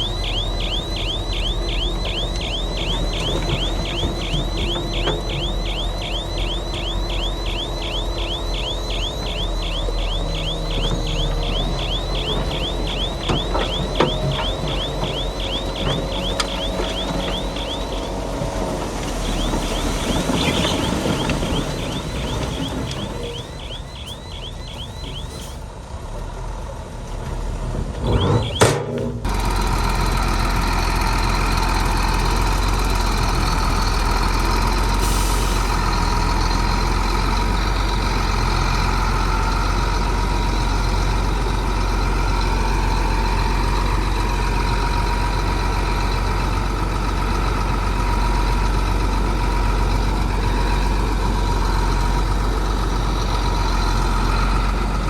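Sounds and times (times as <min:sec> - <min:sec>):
heavy diesel machinery drone: 0:00.0 - 0:27.3, 0:27.9 - 0:55.0.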